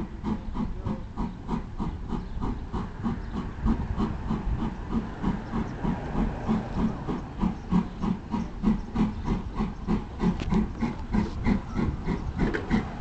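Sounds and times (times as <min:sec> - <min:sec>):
steam train rhythmic beat: 0:00.0 - 0:13.0.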